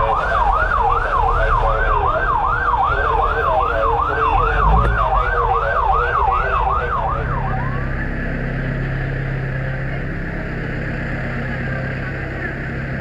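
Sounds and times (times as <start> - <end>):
engine humming: 0.0 - 13.0
fire truck siren yelping: 0.0 - 13.0.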